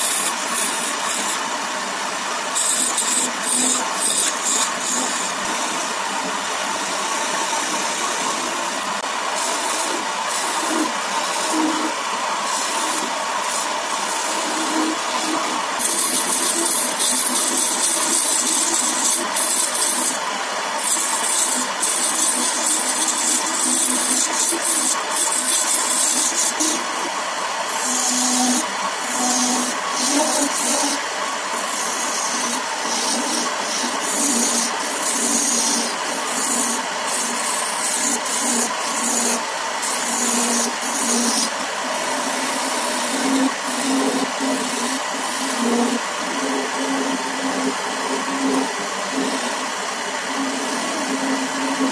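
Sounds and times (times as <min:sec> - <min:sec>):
chisel scraping spinning wood: 0:00.0 - 0:51.9
lathe humming: 0:00.0 - 0:51.9.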